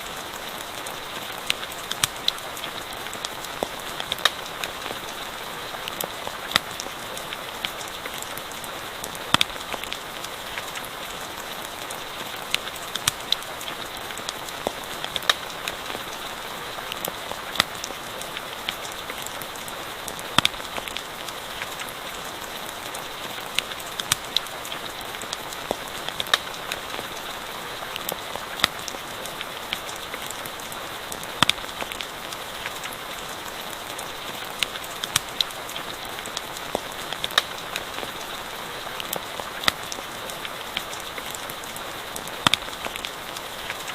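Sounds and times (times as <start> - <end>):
rain pattering: 0.0 - 43.9
campfire crackling and popping: 0.2 - 5.2, 5.8 - 43.9.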